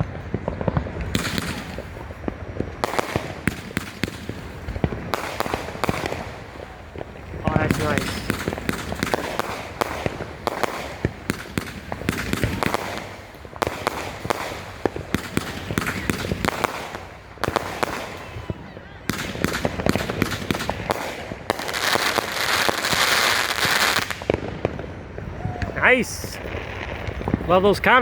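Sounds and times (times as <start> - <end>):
firework launch reports: 0.0 - 28.0
hissing and crackling comets: 0.0 - 28.0.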